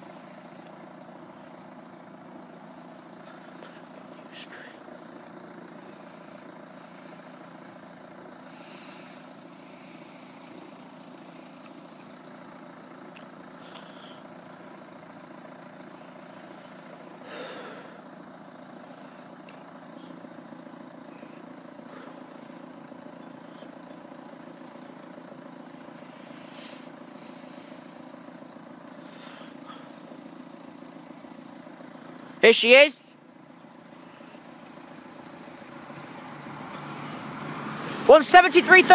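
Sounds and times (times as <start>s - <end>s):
engine idling hum: 0.0s - 38.9s.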